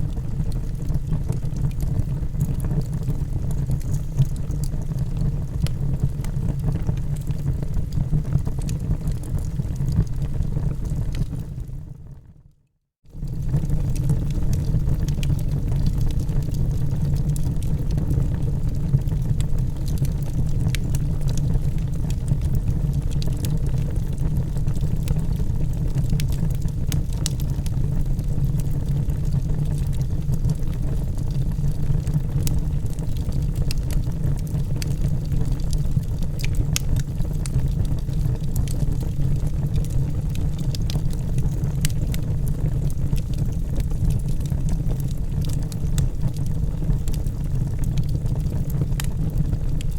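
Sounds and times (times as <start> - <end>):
fire crackles: 0.0 - 12.0, 13.1 - 49.9
fire rumbling: 0.0 - 12.0, 13.1 - 49.9.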